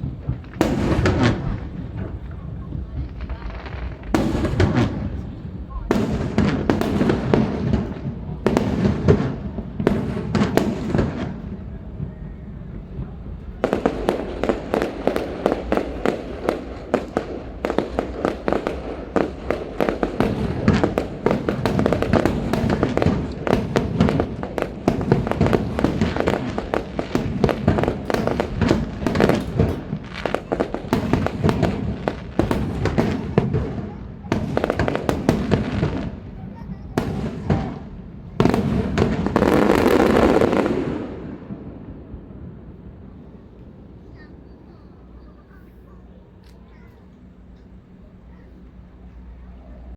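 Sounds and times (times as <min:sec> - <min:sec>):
fireworks bangs and crackles: 0:00.0 - 0:46.8.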